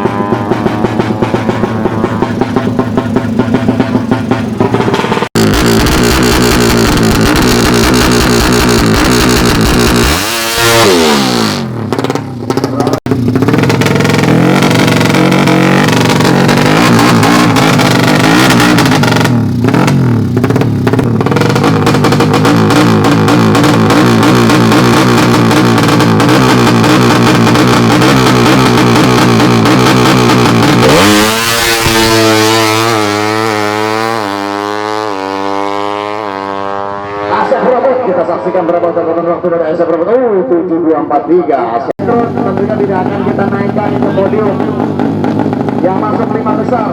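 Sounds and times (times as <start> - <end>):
motorcycle engine revving loud: 0.0 - 39.8, 42.0 - 46.9.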